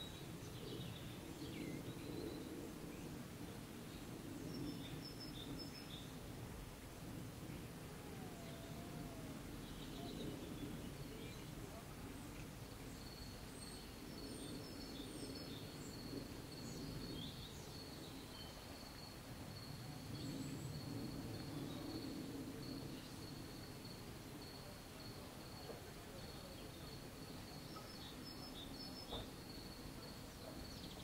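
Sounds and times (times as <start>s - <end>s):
low steady murmur: 0.0s - 31.0s.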